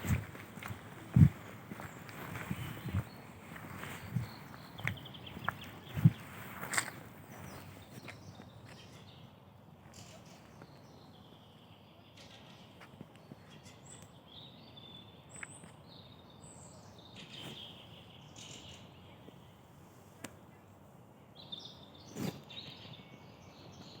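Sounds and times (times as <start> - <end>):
faint background noise: 0.0 - 24.0
songbirds chirping and trilling: 0.0 - 24.0.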